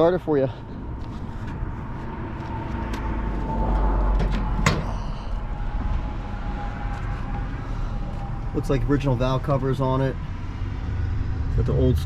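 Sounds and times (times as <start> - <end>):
low rumble: 0.7 - 12.0.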